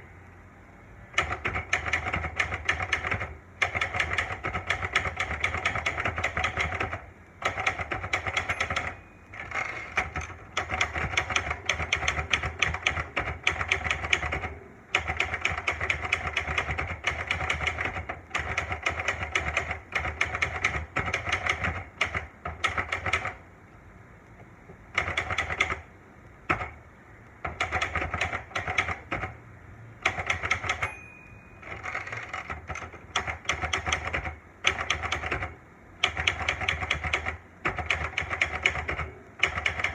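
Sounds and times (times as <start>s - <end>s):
typewriter keystrokes: 1.1s - 23.4s, 24.9s - 25.9s, 26.5s - 26.8s, 27.4s - 29.4s, 30.0s - 31.0s, 31.6s - 39.9s.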